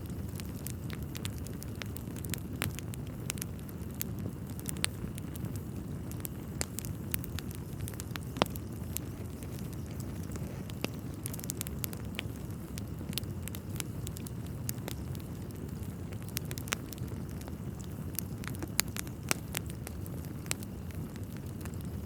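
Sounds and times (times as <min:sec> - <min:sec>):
fire flames rumbling: 0:00.0 - 0:22.0
wood fire crackling and popping: 0:00.0 - 0:22.0.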